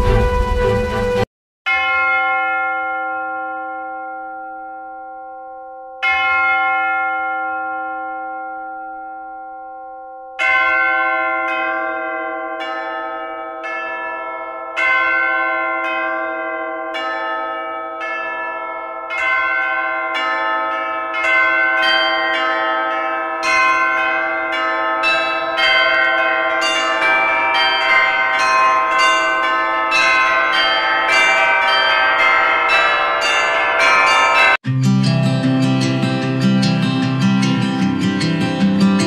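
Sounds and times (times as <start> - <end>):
church bells ringing: 1.7 - 39.0.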